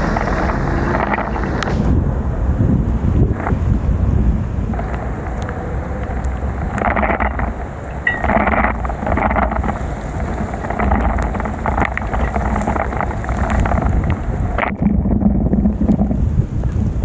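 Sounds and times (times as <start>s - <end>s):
rain hissing: 0.0s - 16.8s
wind rushing over microphone: 0.0s - 17.0s.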